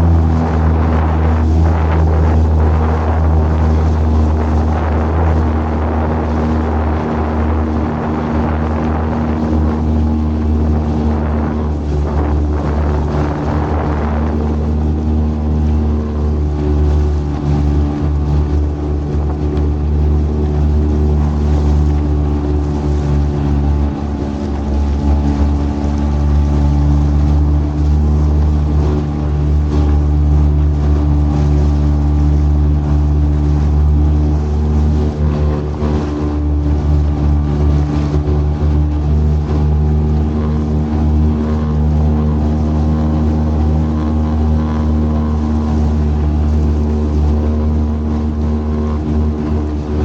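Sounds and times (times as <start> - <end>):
outboard motor droning: 0.0 - 50.0.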